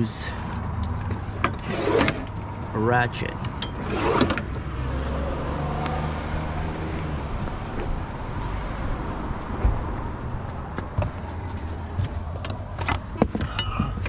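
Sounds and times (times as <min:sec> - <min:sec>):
motor vehicle rumble: 0:00.0 - 0:14.0.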